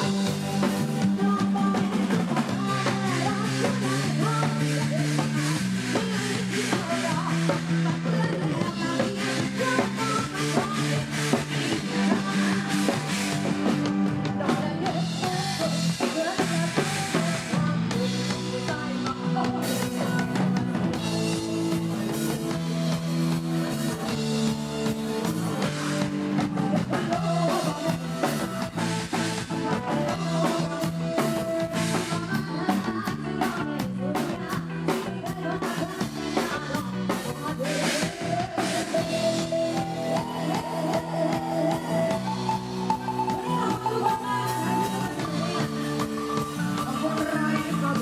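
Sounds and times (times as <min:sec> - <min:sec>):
drum kit beat: 0:00.0 - 0:48.0
electric guitar: 0:00.0 - 0:48.0.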